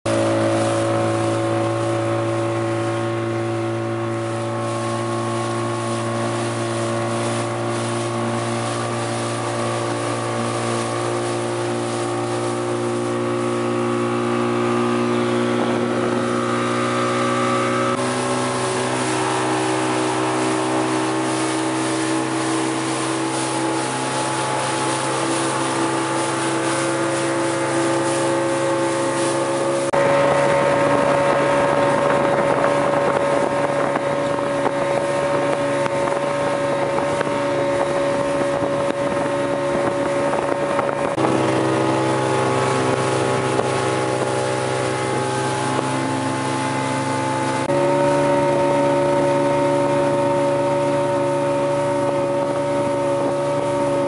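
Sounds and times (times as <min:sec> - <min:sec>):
speedboat engine running: 0:00.0 - 0:54.0
wind noise on microphone: 0:00.1 - 0:54.0.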